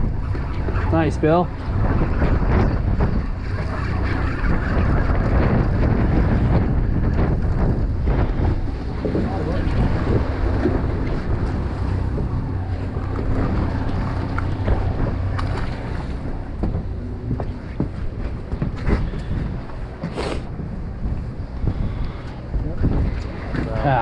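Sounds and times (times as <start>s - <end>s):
boat engine rumbling: 0.0s - 24.0s
waves washing against hull: 0.0s - 24.0s
wind buffeting microphone: 0.0s - 24.0s.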